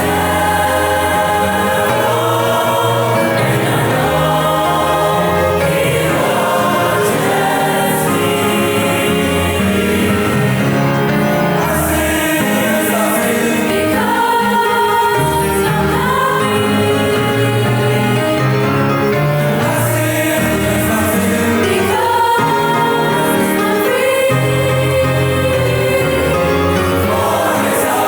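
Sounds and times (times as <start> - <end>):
choir singing sustained notes: 0.0 - 28.0
musical accompaniment: 0.0 - 28.0.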